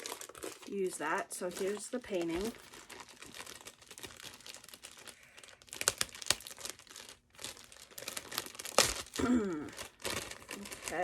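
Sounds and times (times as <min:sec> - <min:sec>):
plastic packaging crinkling: 0:00.0 - 0:11.0
sharp crackles: 0:01.5 - 0:11.0.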